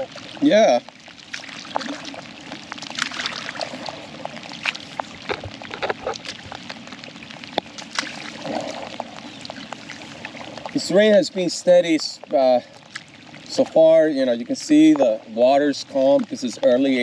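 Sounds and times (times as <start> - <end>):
raindrops ticking on canoe: 0.0 - 17.0
soft wash of water: 0.0 - 17.0.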